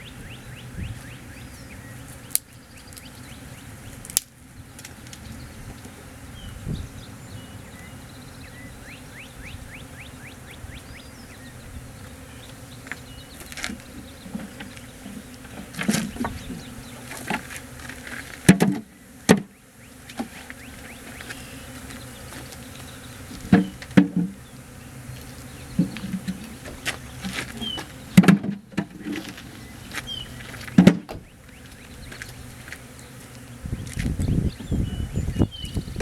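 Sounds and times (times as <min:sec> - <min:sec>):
honey bees buzzing: 0:00.0 - 0:36.0.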